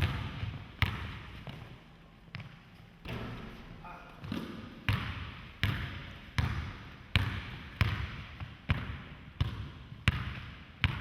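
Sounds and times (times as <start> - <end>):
basketball bouncing: 0.0 - 11.0.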